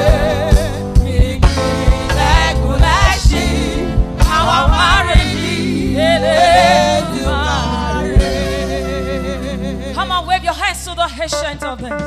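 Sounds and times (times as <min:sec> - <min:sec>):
voices singing with vibrato: 0:00.0 - 0:10.5
band with bass and drums: 0:00.0 - 0:12.0.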